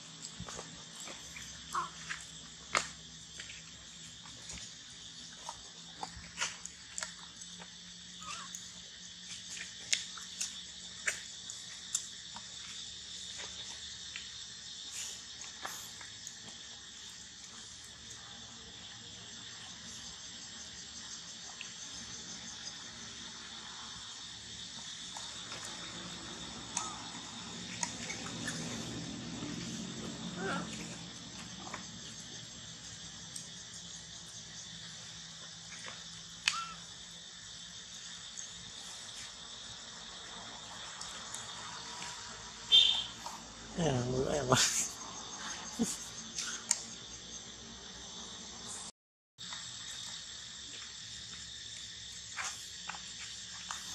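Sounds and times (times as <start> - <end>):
insect chorus buzzing: 0.0 - 53.9.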